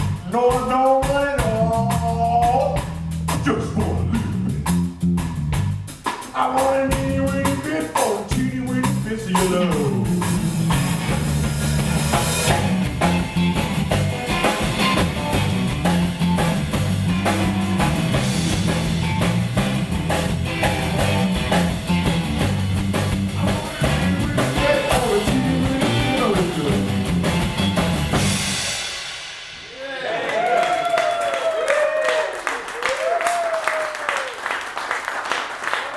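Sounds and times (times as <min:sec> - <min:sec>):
live blues band playing: 0:00.0 - 0:29.2.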